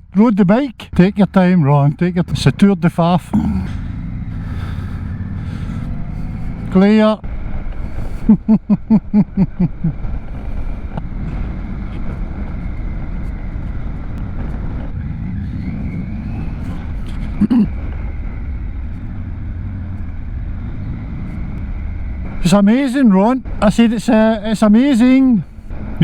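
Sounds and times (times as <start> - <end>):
motorcycle engine rumble: 0.0 - 26.0
wind noise: 3.4 - 26.0.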